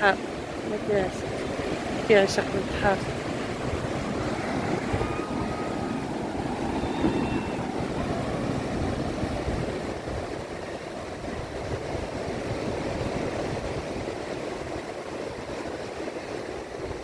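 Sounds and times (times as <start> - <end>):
sea surf rushing: 0.0 - 17.0
wind on microphone: 0.0 - 17.0.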